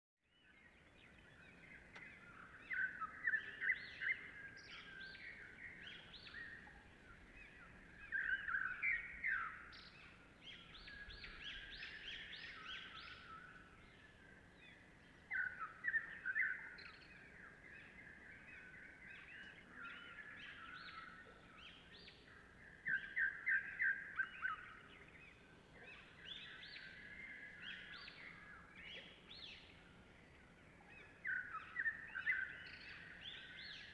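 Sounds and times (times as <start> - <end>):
small birds chirping and trilling: 0.2 - 33.9.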